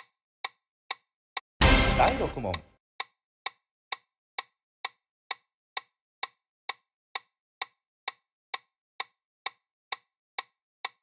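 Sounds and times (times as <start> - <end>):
clock-like timer ticking: 0.0 - 11.0.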